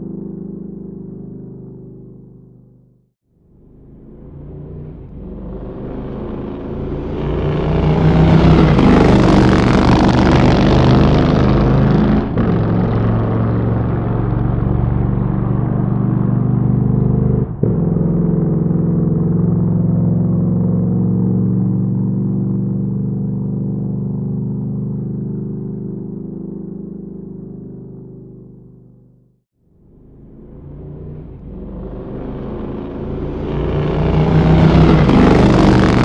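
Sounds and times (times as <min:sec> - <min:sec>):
motorcycle engine running hard: 0:00.0 - 0:36.0.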